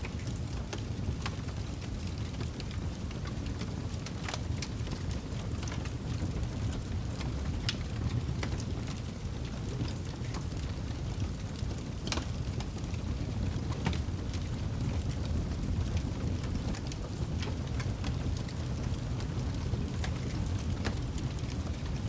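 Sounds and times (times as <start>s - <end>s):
campfire crackles and pops: 0.0s - 22.0s
low rumble of flames: 0.0s - 22.0s.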